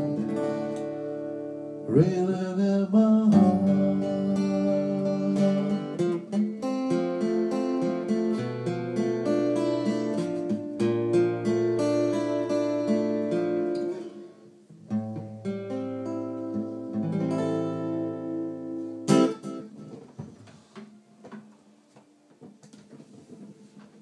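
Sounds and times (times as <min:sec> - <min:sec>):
acoustic guitar chords: 0:00.0 - 0:20.1.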